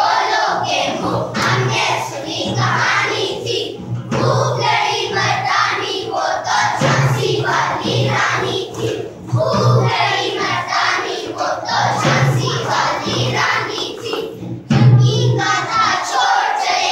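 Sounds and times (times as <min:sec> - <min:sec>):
children singing and shouting: 0:00.0 - 0:16.9
recorded music: 0:00.0 - 0:16.9.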